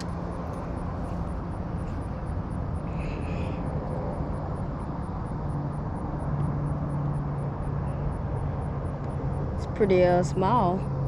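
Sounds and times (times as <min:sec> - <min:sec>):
distant engine drone: 0:00.0 - 0:11.0.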